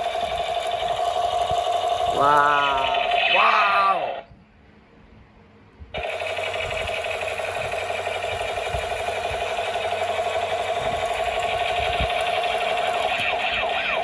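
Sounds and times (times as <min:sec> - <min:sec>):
toy gun rapid buzzing rattle: 0:00.0 - 0:03.5, 0:06.0 - 0:14.0.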